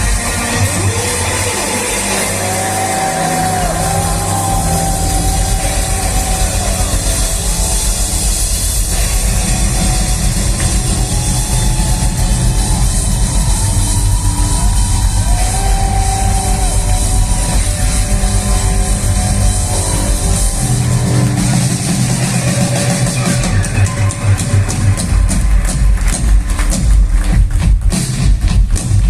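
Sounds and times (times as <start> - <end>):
loud drums: 0.0 - 29.0
rock band playing live: 0.0 - 29.0.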